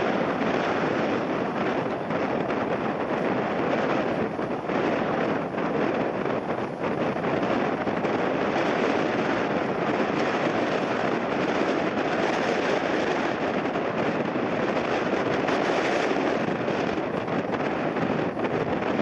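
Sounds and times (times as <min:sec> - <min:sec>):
jet airliner engine: 0:00.0 - 0:19.0
strong wind buffeting microphone: 0:00.0 - 0:19.0.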